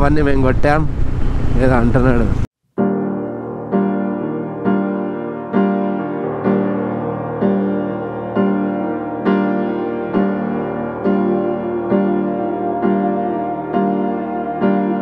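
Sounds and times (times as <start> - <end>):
piano chords: 2.8 - 15.0.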